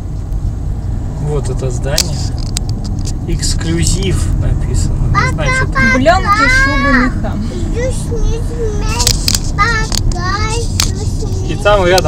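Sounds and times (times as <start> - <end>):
road rumble inside moving car: 0.0 - 12.0.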